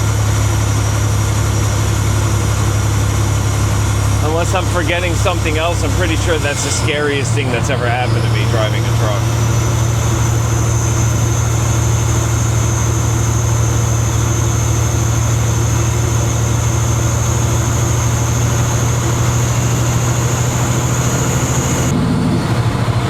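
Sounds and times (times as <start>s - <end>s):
high-pitched whine: 0.0s - 23.0s
truck diesel engine running: 0.0s - 23.0s.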